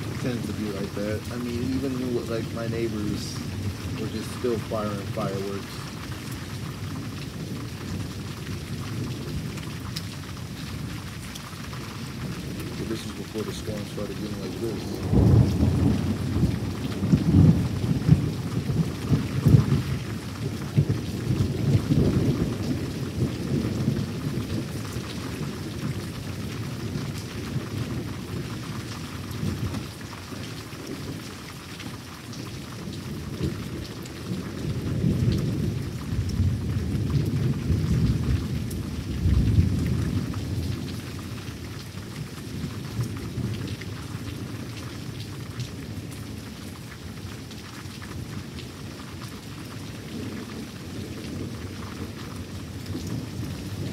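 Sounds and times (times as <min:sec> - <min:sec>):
thunder rumbling: 0:00.0 - 0:31.3, 0:32.4 - 0:45.1, 0:49.7 - 0:53.9
steady rain: 0:00.0 - 0:53.9.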